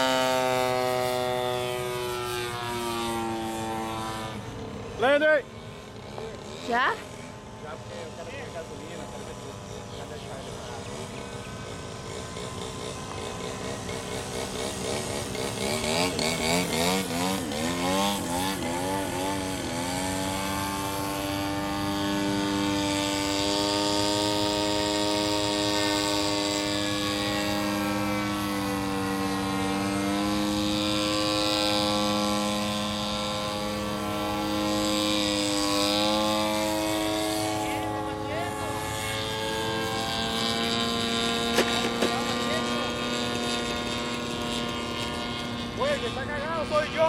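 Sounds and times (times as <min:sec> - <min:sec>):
model airplane engine droning: 0:00.0 - 0:47.0.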